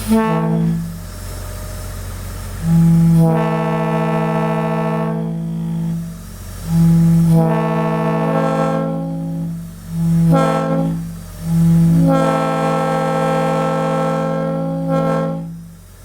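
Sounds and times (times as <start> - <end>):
locomotive air horn blasts: 0.0 - 1.1, 2.5 - 16.0.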